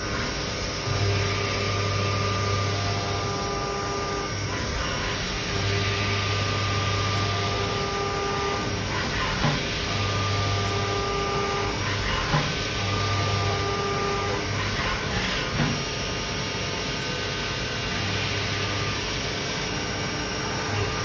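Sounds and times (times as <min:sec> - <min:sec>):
milling machine cutting tone: 0:00.0 - 0:21.0.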